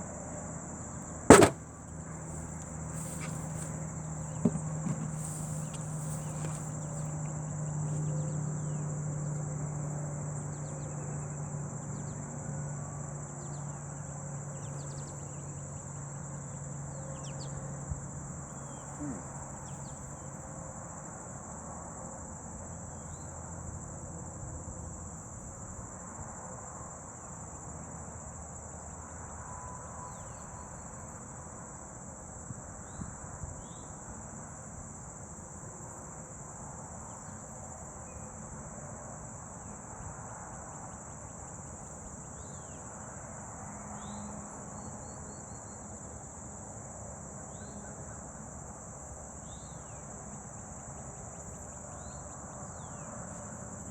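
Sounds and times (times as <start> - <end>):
insects chorus: 2.4 - 21.6, 26.7 - 53.9.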